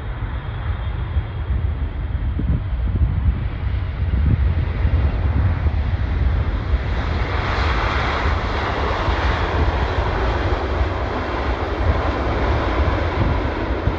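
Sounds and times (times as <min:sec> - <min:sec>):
jet engines running: 0:00.0 - 0:13.9.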